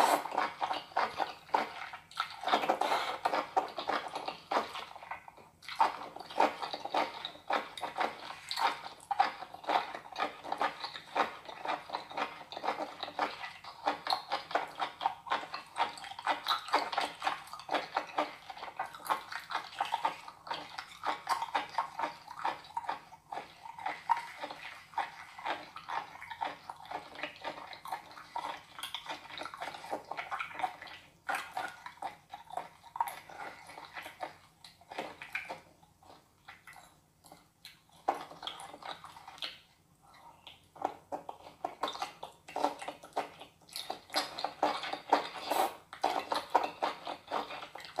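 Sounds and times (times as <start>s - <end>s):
octopus squelching: 0.0s - 48.0s
slurping: 0.0s - 48.0s
sticky wet smacks and clicks: 0.2s - 48.0s.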